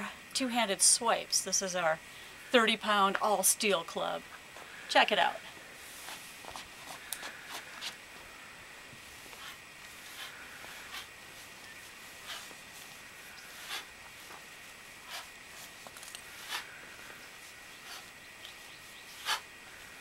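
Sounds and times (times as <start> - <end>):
faint high hum: 0.0 - 20.0.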